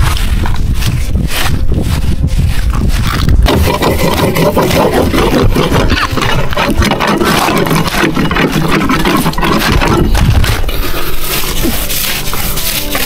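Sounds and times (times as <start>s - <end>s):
steel wool scraping a hull: 0.0s - 13.0s.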